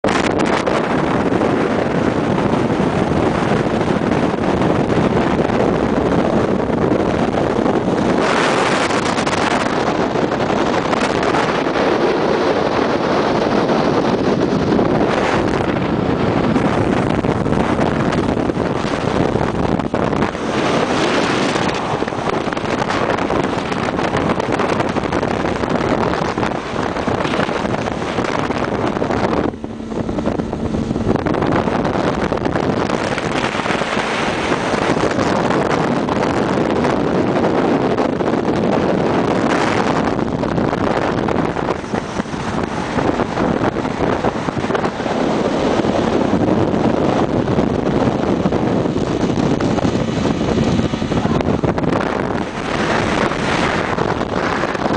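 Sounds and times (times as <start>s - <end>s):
motorboat engine and water rushing: 0.0s - 54.9s
wind buffeting microphone: 0.0s - 54.9s.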